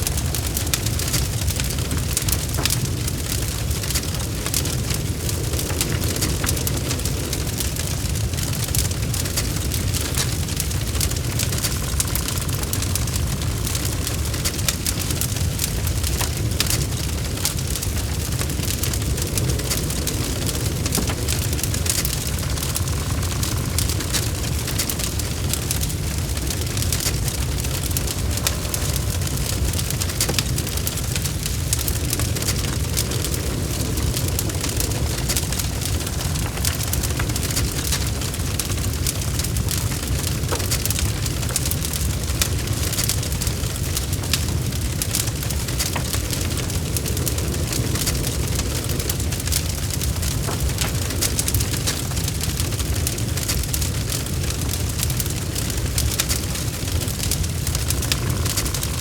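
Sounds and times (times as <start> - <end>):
fireplace logs crackling: 0.0 - 59.0
low rumble of flames: 0.0 - 59.0.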